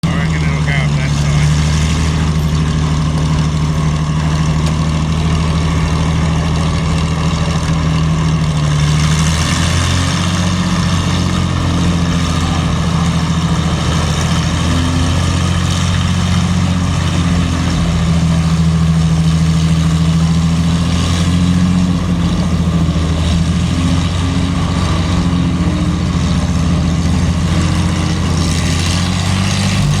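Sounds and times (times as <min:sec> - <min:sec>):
tank engine running: 0:00.0 - 0:30.0.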